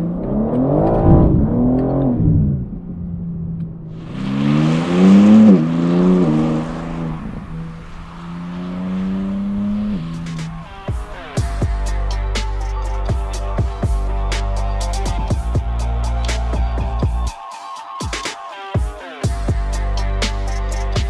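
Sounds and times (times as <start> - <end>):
car engine accelerating hard: 0.0 - 17.2.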